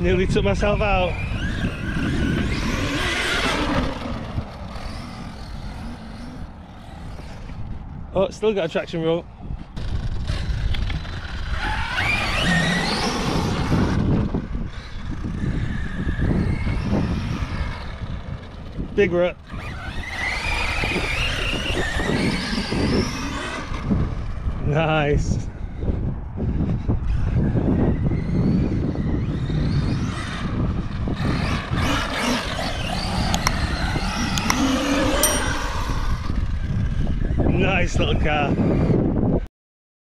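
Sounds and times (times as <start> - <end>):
rc truck electric motor whining: 0.6 - 7.8, 9.8 - 24.4, 27.1 - 37.4.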